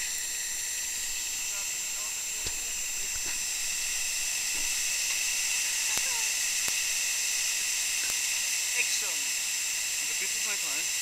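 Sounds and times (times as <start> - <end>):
water spraying and hissing: 0.0 - 11.0.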